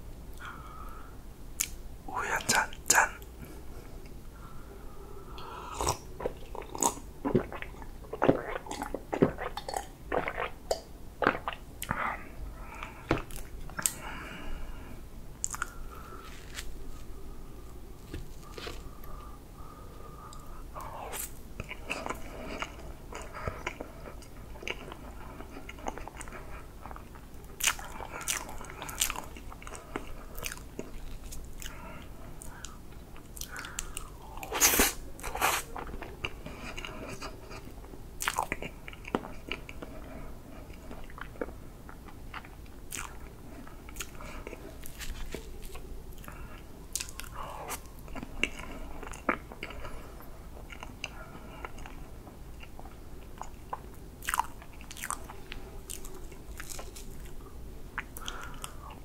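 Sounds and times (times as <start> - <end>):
wet chewing and lip smacking: 5.7 - 14.0, 15.4 - 17.2, 20.3 - 31.8, 32.4 - 50.0, 50.6 - 59.0.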